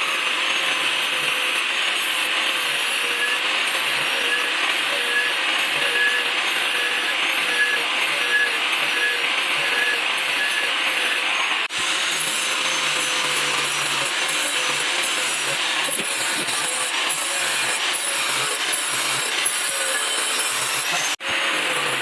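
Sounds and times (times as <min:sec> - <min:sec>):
tool grinding steel: 0:00.0 - 0:22.0.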